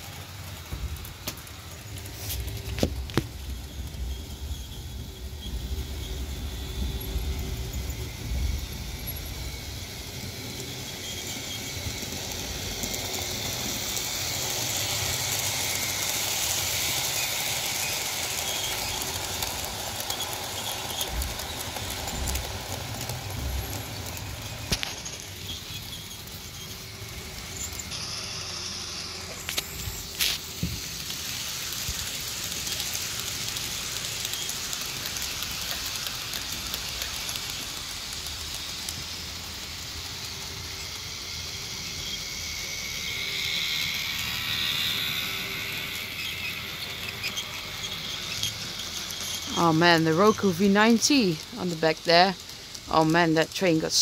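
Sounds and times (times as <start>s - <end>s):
model train motor whirring: 0.0s - 54.0s.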